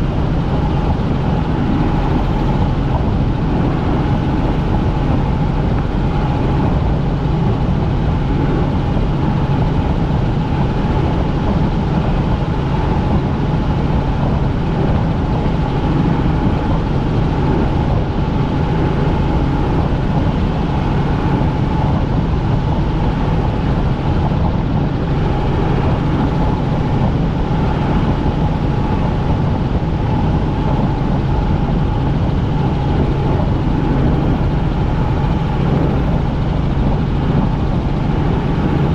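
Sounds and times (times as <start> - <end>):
helicopter turbine and rotor drone: 0.0 - 38.9.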